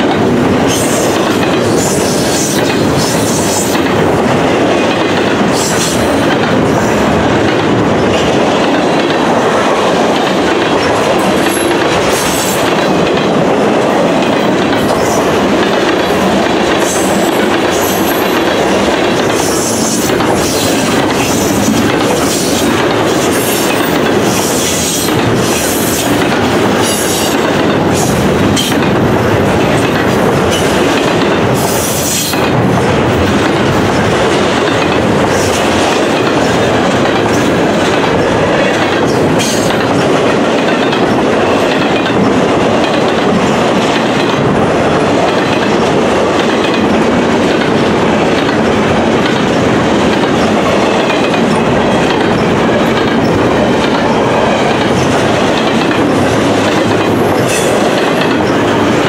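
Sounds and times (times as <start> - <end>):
train wheels rumbling on rail: 0.0 - 59.0
wheels clacking over rail joints: 0.0 - 59.0.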